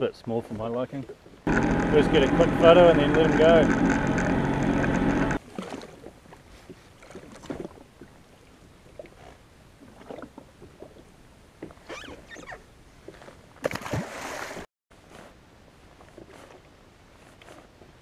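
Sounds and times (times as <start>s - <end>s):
water sloshing against hull: 0.2s - 18.0s.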